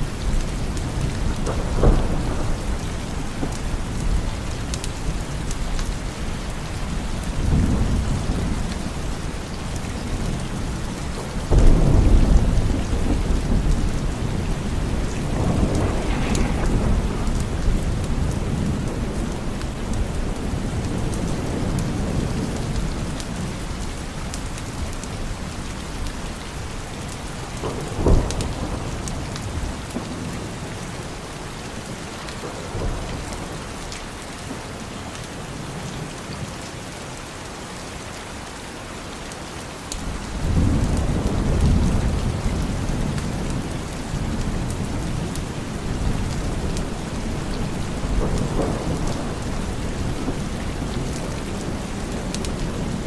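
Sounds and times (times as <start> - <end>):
thunderclap: 0.0 - 34.6, 40.0 - 53.0
low rumble of thunder: 0.0 - 36.4, 40.0 - 53.0
rain falling: 0.0 - 53.0.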